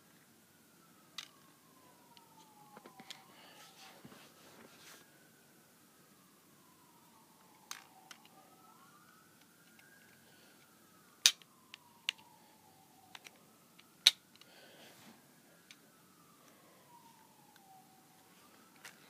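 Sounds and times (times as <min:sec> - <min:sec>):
distant siren wailing: 0:00.0 - 0:19.0.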